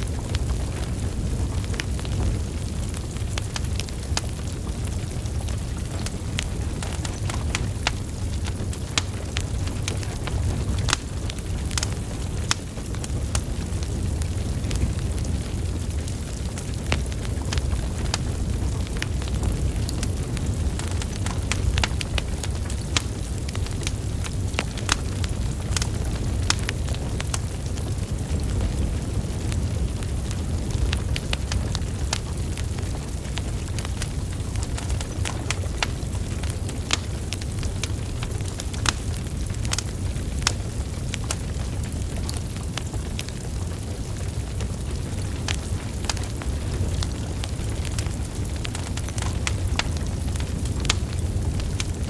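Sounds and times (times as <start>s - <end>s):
fire crackles and pops: 0.0s - 52.0s
low rumble of flames: 0.0s - 52.0s.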